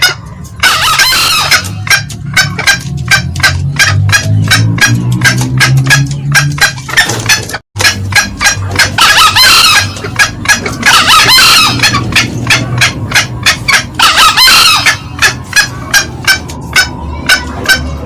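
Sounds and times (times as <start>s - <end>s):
junglefowl cackling: 0.0s - 18.0s
junglefowl crowing: 0.0s - 18.0s.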